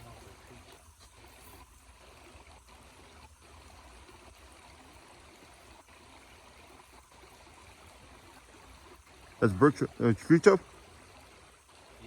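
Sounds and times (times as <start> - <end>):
stream trickling faintly: 0.0 - 12.0.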